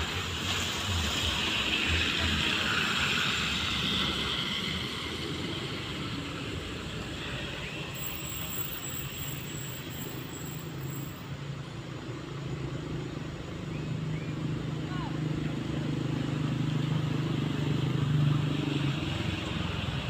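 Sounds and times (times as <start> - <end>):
vehicle passing on road: 0.0 - 20.0.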